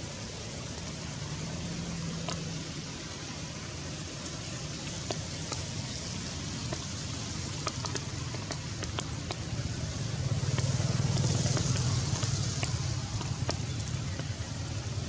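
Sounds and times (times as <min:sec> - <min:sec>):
steady rain: 0:00.0 - 0:15.0
sharp drips: 0:00.3 - 0:15.0.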